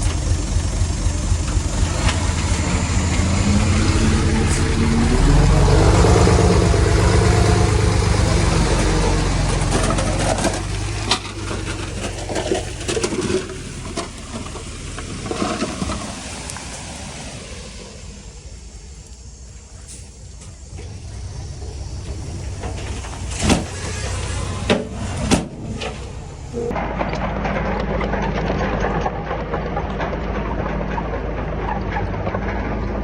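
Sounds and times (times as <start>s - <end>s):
sharp knocks and clatters: 0.0s - 16.2s, 22.1s - 33.0s
heavy diesel engine under load: 0.0s - 33.0s.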